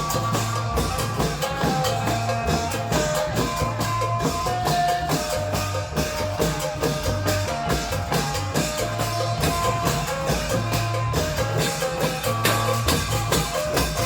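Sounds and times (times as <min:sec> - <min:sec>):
steady drum rhythm: 0:00.0 - 0:14.0.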